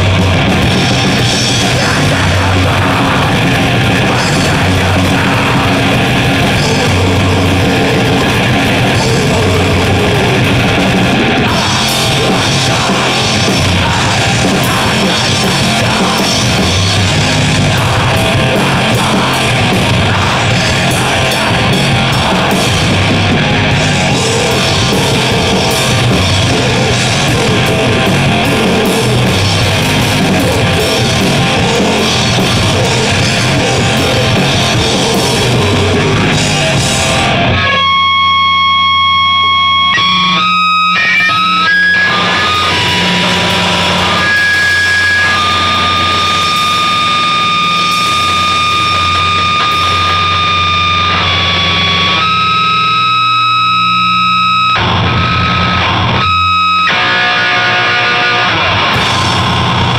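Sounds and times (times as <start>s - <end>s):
distorted electric guitar: 0.0s - 59.9s
drum kit: 0.0s - 59.9s.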